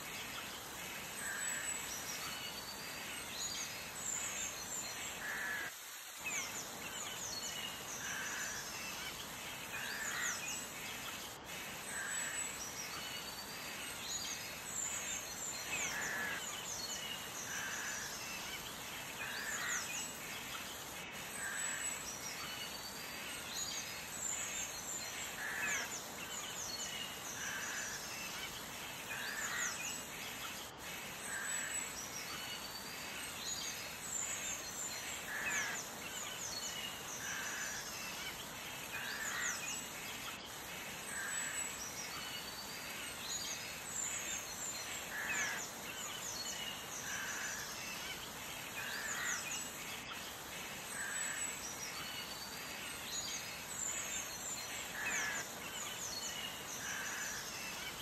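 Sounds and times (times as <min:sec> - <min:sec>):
background hiss: 0:00.0 - 0:58.0
birds chirping: 0:00.0 - 0:58.0.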